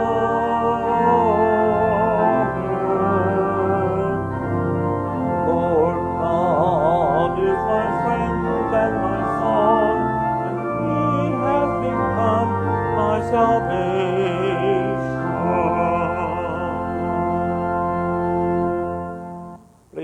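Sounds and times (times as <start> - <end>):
church organ playing chords: 0.0 - 20.0
voices singing a hymn: 0.0 - 20.0.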